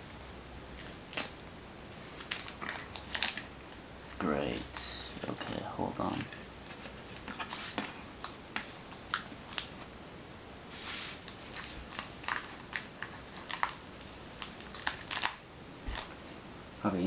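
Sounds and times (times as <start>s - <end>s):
packaging crinkling and rustling: 0.7s - 9.9s, 11.1s - 16.4s.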